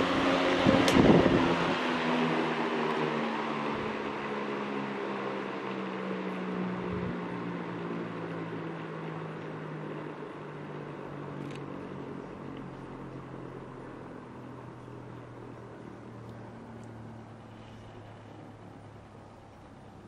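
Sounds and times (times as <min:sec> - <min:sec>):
fan air rushing: 0:00.0 - 0:20.0
fan motor hum: 0:00.0 - 0:20.0.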